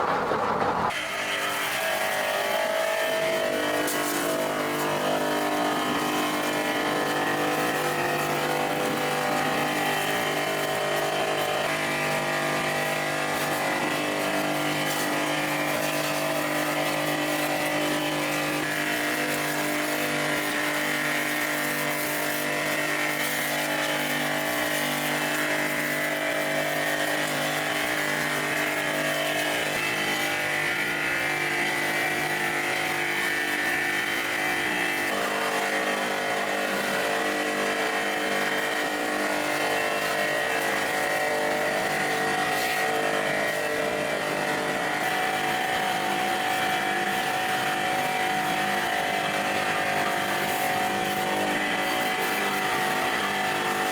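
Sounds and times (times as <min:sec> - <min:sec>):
power tool humming: 0:00.0 - 0:53.9.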